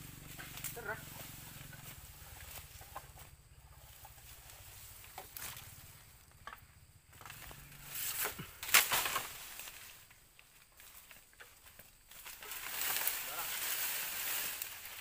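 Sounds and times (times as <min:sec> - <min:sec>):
rustling: 0:00.2 - 0:15.0.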